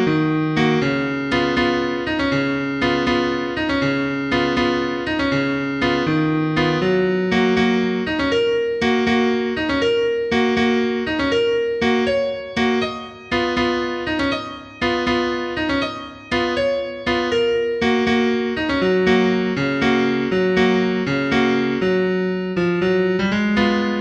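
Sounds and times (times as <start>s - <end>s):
calm solo piano: 0.0s - 24.0s.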